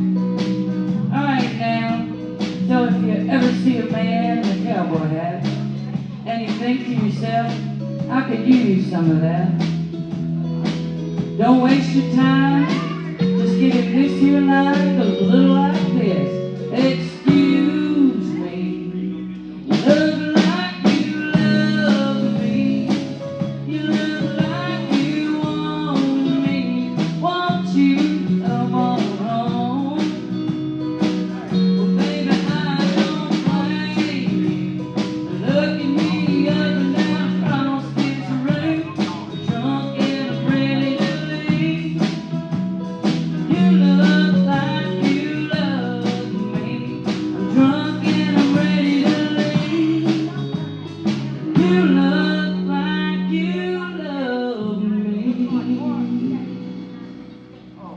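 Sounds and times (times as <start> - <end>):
steady drum beat: 0.0 - 18.5, 19.6 - 52.5
guitar: 0.0 - 57.9
live country band: 0.0 - 57.9.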